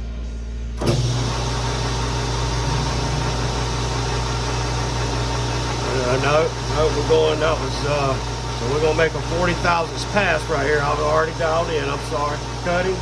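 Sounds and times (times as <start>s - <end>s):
metal lathe running: 0.8s - 13.0s.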